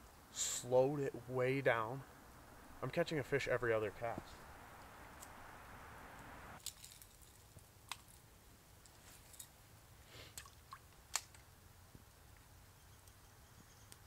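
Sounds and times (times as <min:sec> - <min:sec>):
soft hiss: 0:00.0 - 0:14.0.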